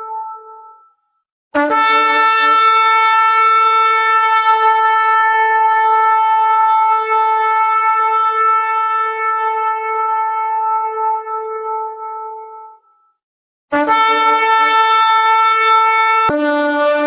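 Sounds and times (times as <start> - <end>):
shofar long held note: 0.0 - 0.8, 1.6 - 12.9, 13.7 - 17.0.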